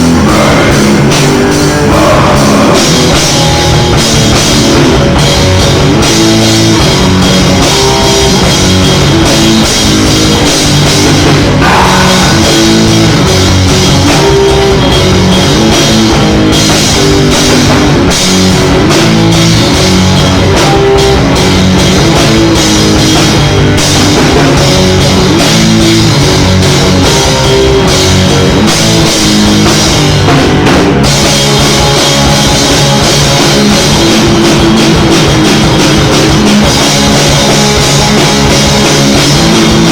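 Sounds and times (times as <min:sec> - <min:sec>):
bass guitar: 0:00.0 - 0:39.9
drum kit with cymbals: 0:00.0 - 0:39.9
electric guitar riff: 0:00.0 - 0:39.9.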